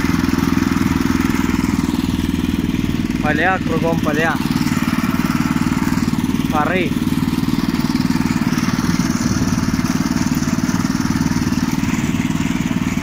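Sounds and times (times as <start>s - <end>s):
walk-behind tractor engine running: 0.0s - 13.0s.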